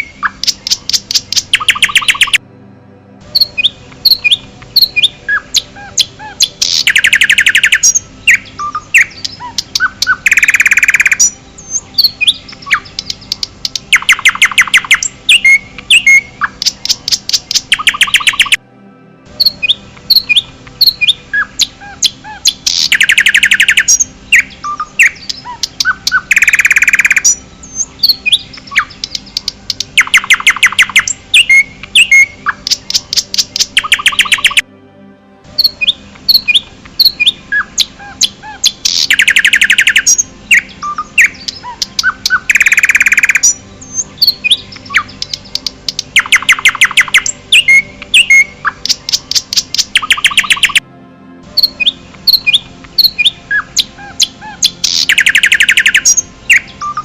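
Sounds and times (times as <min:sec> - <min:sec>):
songbirds trilling and chirping: 0:00.0 - 0:02.4, 0:03.3 - 0:18.6, 0:19.4 - 0:34.6, 0:35.5 - 0:50.8, 0:51.5 - 0:57.0.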